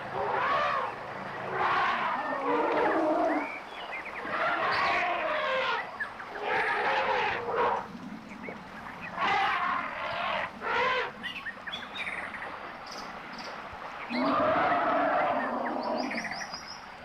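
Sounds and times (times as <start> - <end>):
elephants calling: 0.0 - 12.3, 14.1 - 16.6.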